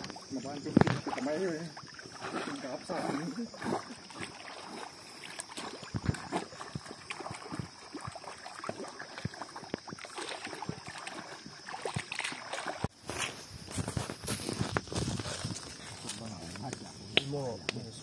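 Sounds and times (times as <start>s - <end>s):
feet wading through stream: 0.0s - 17.5s.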